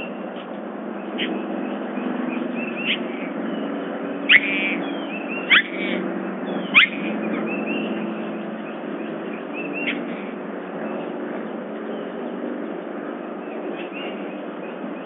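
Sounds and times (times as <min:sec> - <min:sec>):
bird calls sweeping downward: 0:00.0 - 0:15.0
steady low hum: 0:00.0 - 0:15.0.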